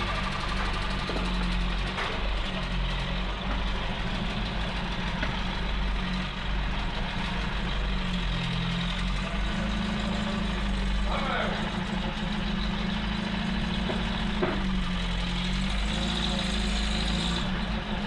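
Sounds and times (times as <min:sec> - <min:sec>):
truck engine running at low revs: 0:00.0 - 0:18.0.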